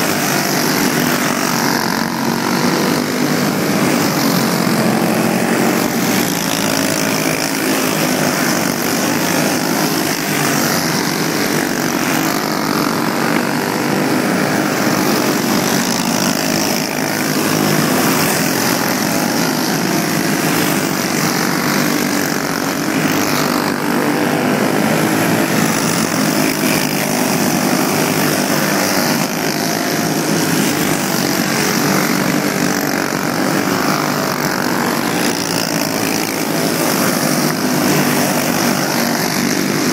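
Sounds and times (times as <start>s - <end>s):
racing kart engines buzzing: 0.0s - 39.9s.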